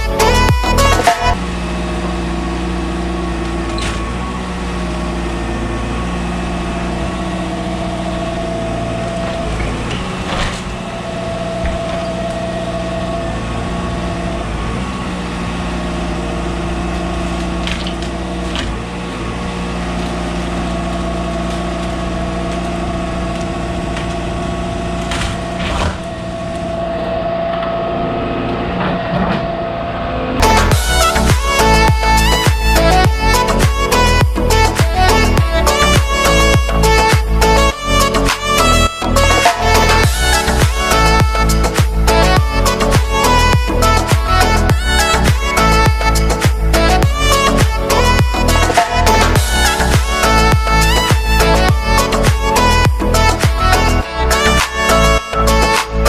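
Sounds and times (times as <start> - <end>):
excavator diesel engine running: 0.0 - 56.0
hydraulics whine: 0.0 - 56.0.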